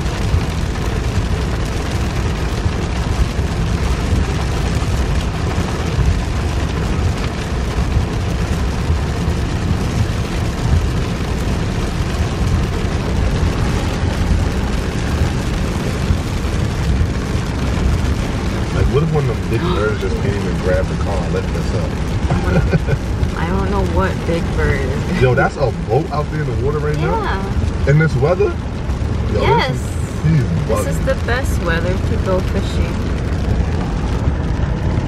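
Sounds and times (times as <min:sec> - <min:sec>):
hiss of rain and spray: 0:00.0 - 0:35.0
tyre noise on wet road: 0:00.0 - 0:35.0.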